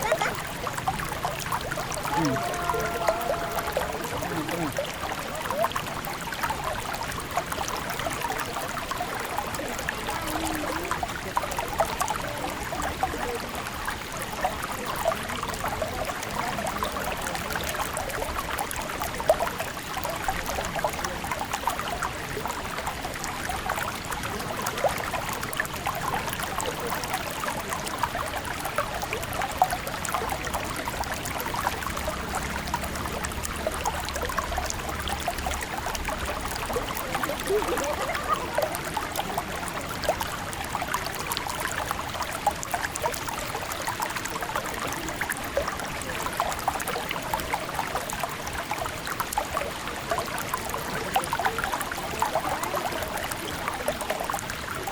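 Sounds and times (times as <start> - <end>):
river water burbling: 0.0 - 54.9.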